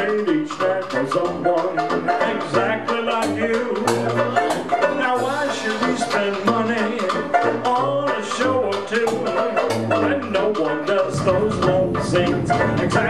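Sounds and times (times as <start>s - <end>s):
upbeat song with steady beat: 0.0s - 13.0s.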